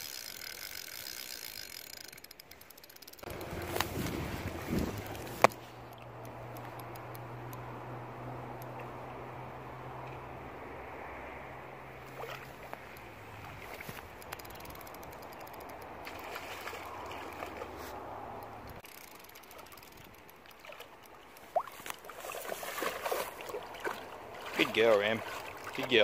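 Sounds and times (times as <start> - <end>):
water splashing and sloshing: 2.4 - 7.4, 8.4 - 26.0.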